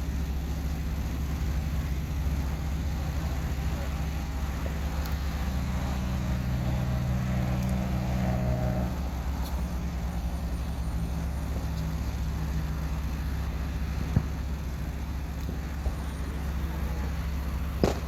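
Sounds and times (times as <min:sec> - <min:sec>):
low rumble of road traffic: 0:00.0 - 0:18.0
vehicle engine hum: 0:00.0 - 0:18.0.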